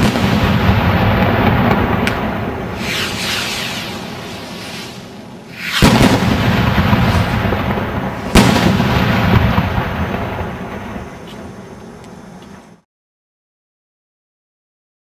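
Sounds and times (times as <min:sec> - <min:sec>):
fireworks bursts: 0:00.0 - 0:12.7
fireworks bangs: 0:00.0 - 0:12.8.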